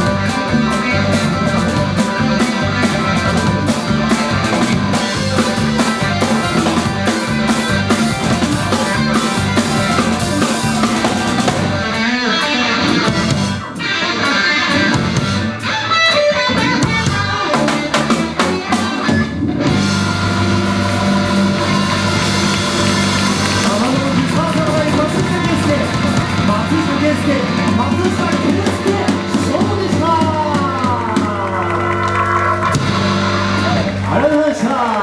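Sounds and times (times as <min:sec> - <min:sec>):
electric guitar bent notes: 0:00.0 - 0:34.6
live rock band playing: 0:00.0 - 0:35.0.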